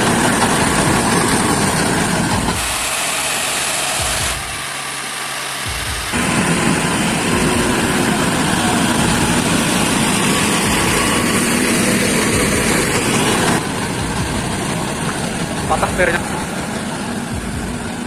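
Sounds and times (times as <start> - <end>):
heavy truck engine running: 0.0 - 18.0
loud noisy wash: 0.0 - 18.0.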